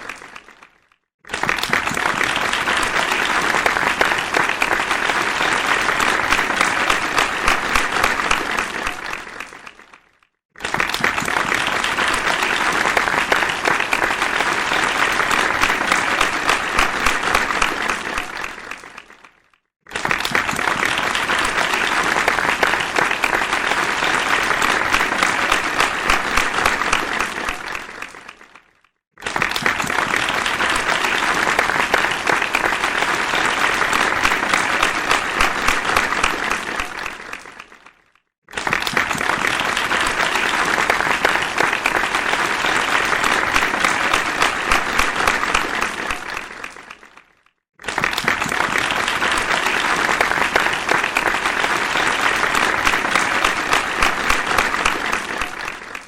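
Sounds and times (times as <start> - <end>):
crowd applauding: 0.0 - 56.0.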